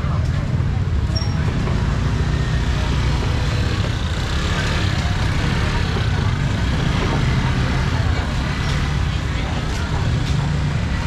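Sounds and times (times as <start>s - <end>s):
market background noise: 0.0s - 11.0s
motorbike engines rumbling: 0.0s - 11.0s.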